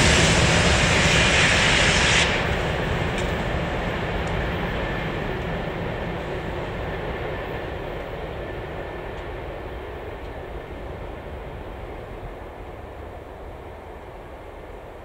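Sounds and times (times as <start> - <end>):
freight train rolling: 0.0 - 15.0.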